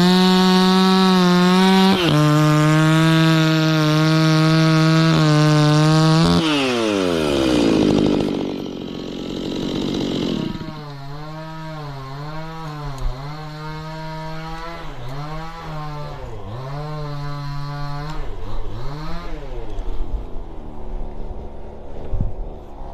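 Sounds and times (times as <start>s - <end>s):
chainsaw cutting wood: 0.0s - 20.1s.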